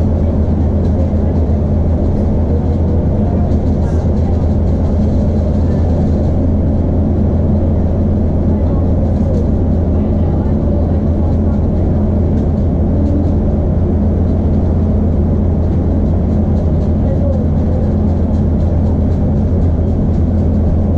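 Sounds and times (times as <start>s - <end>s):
train diesel engine drone: 0.0s - 20.9s.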